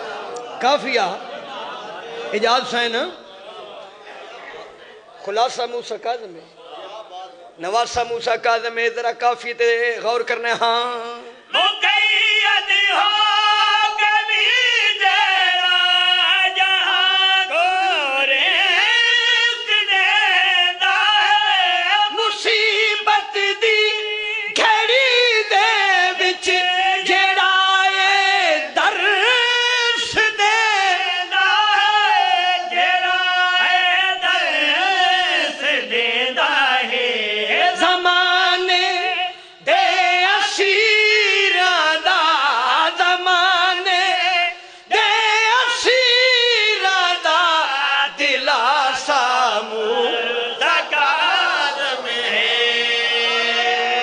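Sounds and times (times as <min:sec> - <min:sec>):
man chanting through a microphone: 0:07.6 - 0:51.3.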